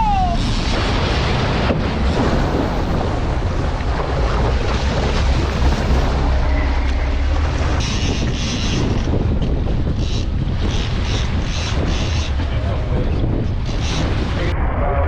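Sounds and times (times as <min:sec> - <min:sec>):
boat engine drone: 0:00.0 - 0:15.0
water rushing past hull: 0:00.0 - 0:15.0
wind buffeting microphone: 0:00.0 - 0:15.0.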